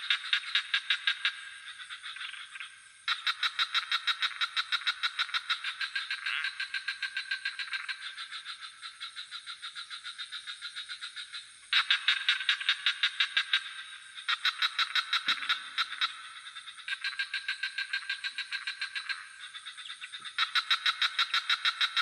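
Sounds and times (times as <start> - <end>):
frogs calling in rapid pulses: 0.0 - 22.0.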